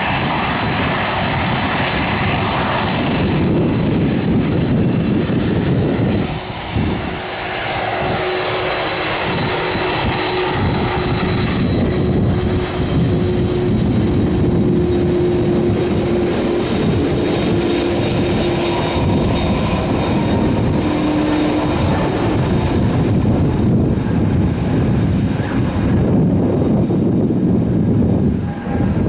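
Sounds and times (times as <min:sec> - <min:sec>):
airliner engines roaring: 0:00.0 - 0:29.0.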